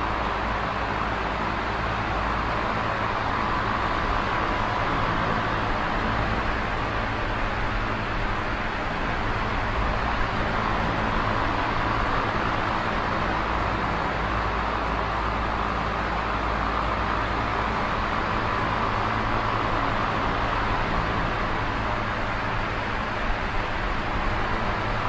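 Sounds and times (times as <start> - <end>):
electric fan air rushing: 0.0 - 25.0.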